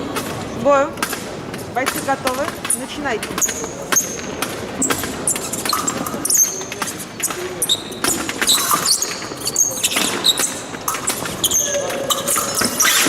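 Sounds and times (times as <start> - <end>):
shoes squeaking on floor: 1.5 - 13.0.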